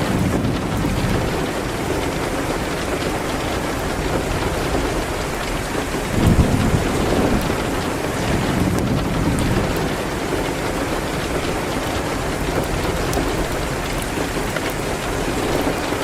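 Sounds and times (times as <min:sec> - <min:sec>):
rain hitting a window: 0:00.0 - 0:16.0.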